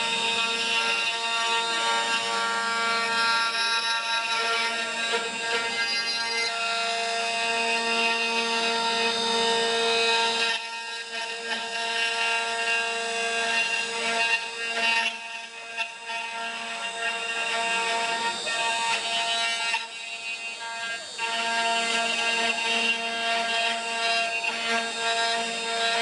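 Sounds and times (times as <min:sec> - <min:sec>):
cnc router spindle whining: 0:00.0 - 0:26.0.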